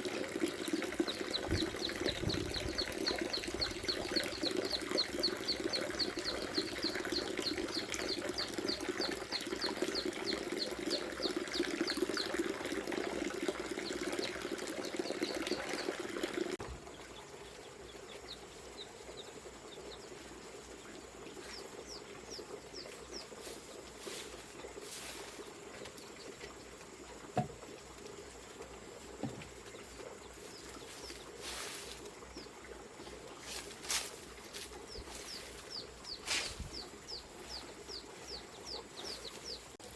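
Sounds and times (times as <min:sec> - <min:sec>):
water running from a pipe: 0:00.0 - 0:18.1, 0:20.2 - 0:37.4
birds chirping: 0:00.1 - 0:12.6, 0:13.8 - 0:26.6, 0:28.9 - 0:39.9.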